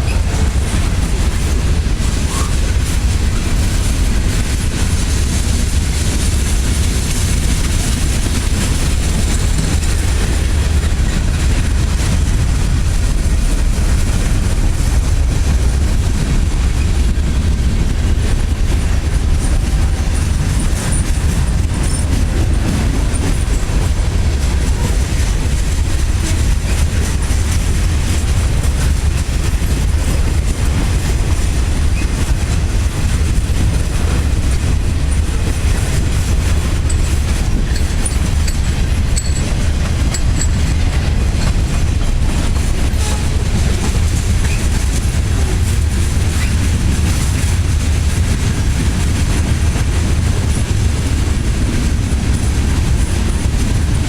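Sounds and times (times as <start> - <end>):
railroad cars rolling on track: 0.0 - 54.0.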